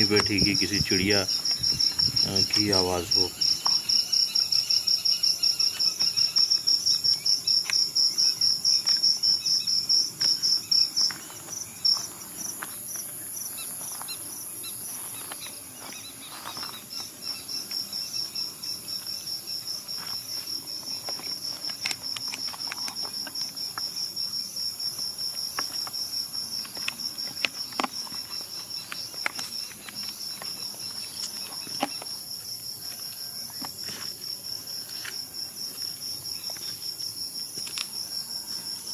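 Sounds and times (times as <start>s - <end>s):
crickets chirping: 0.0s - 38.9s
high insect hiss: 0.0s - 38.9s.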